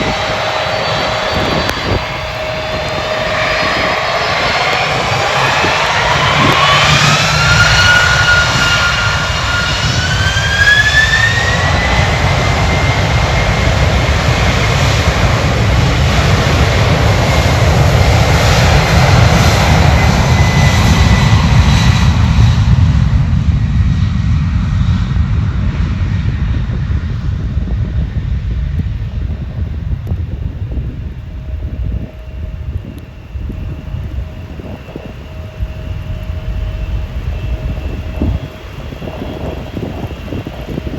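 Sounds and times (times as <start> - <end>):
deep jet engine rumble: 0.0 - 40.9
jet engines whining: 0.0 - 40.9.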